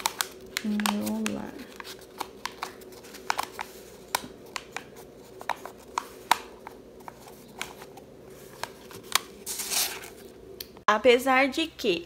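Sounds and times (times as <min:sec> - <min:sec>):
paper rustling: 0:00.0 - 0:10.4
faint steady hum: 0:00.0 - 0:12.0.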